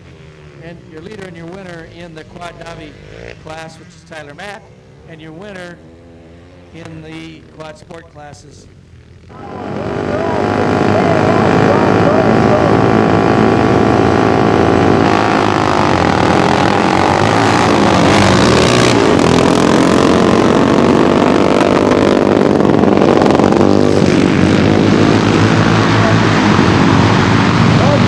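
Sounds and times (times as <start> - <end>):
off-road racing engines revving: 0.0 - 28.0.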